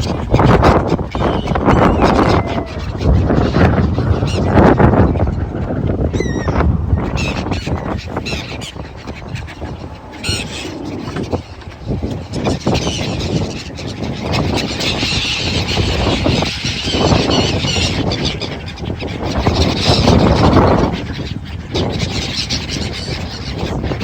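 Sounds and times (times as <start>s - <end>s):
seagulls calling: 0.0s - 24.0s.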